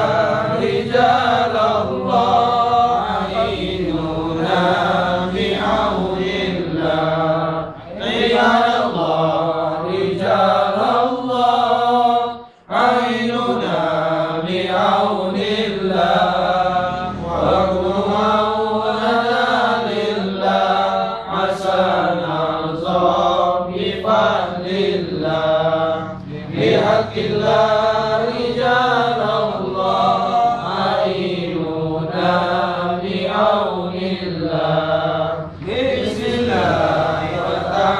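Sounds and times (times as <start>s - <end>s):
men chanting devotional litany: 0.0s - 37.9s.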